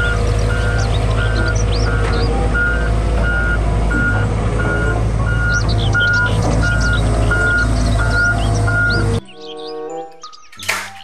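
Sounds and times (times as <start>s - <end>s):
diesel engine running: 0.0s - 9.7s
travel alarm beeping: 0.0s - 10.7s.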